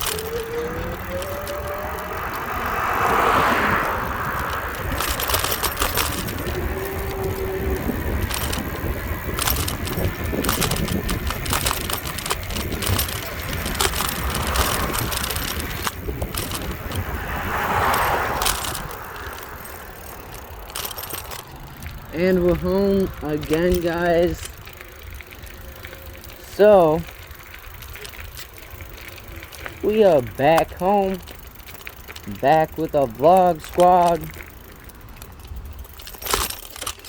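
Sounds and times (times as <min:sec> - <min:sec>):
wind rumbling on microphone: 0:00.0 - 0:31.6
car passing: 0:00.0 - 0:36.9
bicycle clicks and rattles: 0:00.0 - 0:37.0.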